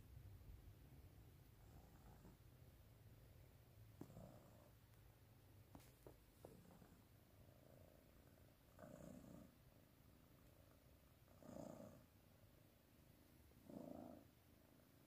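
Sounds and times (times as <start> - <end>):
cat purring: 0.8 - 15.0.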